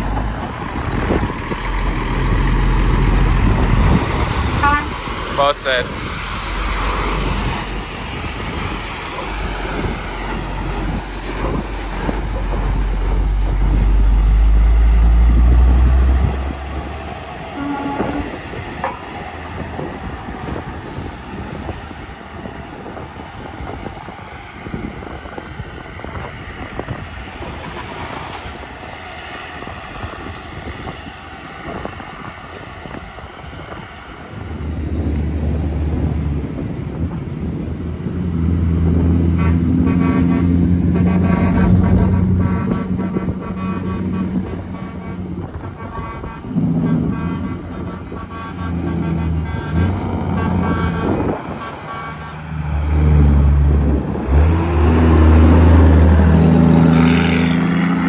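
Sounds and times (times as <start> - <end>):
traffic noise: 0.0 - 58.0
truck diesel engine drone: 0.0 - 58.0.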